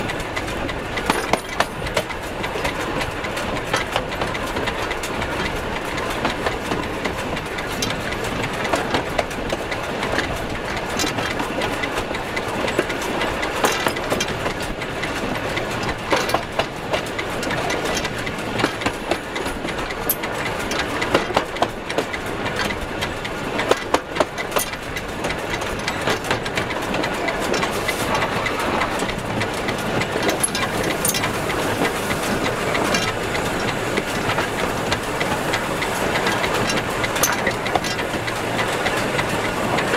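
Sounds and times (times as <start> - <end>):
sharp clicks and knocks: 0.0 - 39.9
steam locomotive wheels rumbling: 0.0 - 39.9.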